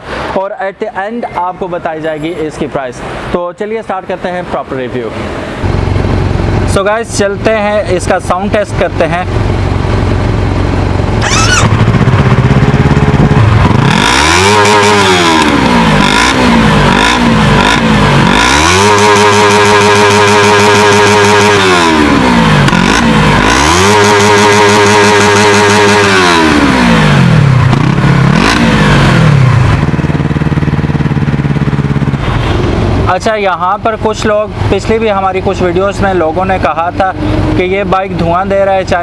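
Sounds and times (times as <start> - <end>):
motorcycle engine revving: 5.3 - 39.0.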